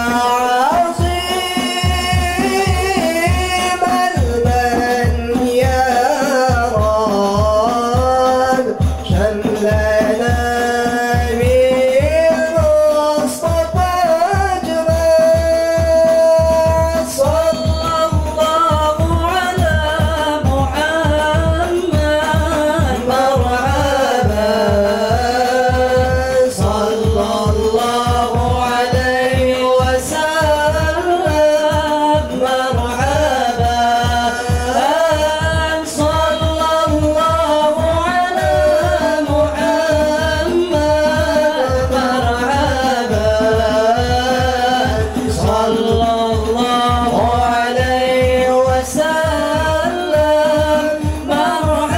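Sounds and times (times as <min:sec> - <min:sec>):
frame drums beating: 0:00.0 - 0:51.9
men singing in unison: 0:00.0 - 0:51.9.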